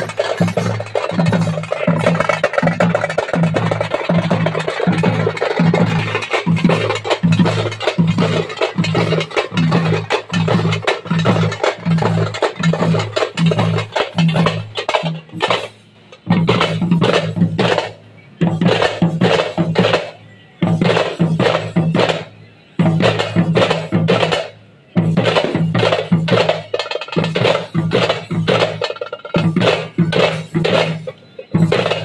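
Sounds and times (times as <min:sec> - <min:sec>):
frame drums beaten fast: 0:00.0 - 0:32.0.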